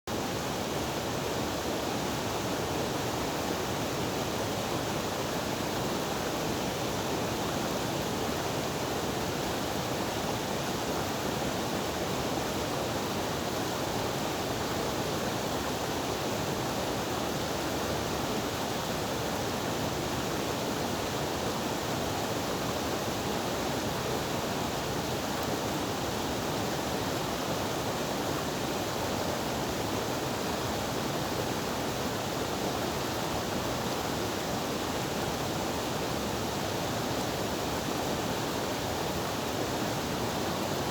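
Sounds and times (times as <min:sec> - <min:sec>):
stream rushing over rocks: 0:00.1 - 0:40.9.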